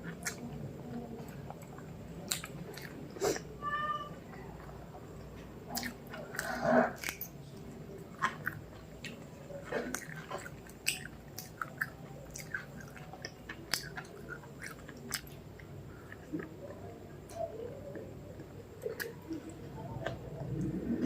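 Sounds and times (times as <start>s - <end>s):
chewing with wet mouth clicks: 0.0s - 0.6s, 1.2s - 3.0s, 5.7s - 20.7s.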